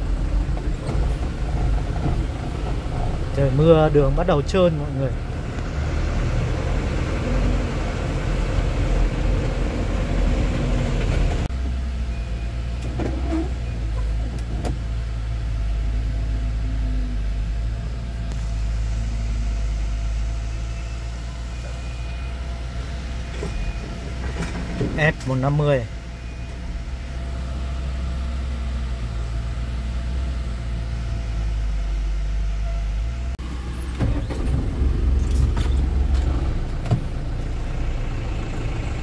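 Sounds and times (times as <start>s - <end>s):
dump truck engine drone: 0.0s - 39.0s
rattle and road noise: 0.0s - 39.0s.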